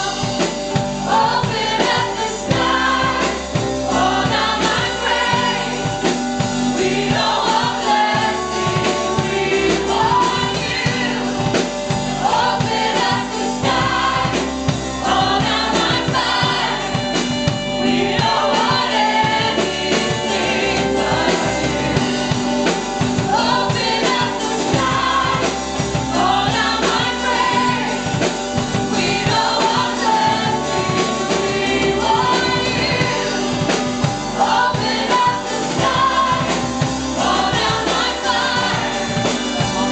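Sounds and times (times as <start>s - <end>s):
backing band: 0.0s - 39.9s
choir singing worship song: 0.0s - 39.9s
steady drum beat: 0.0s - 39.9s.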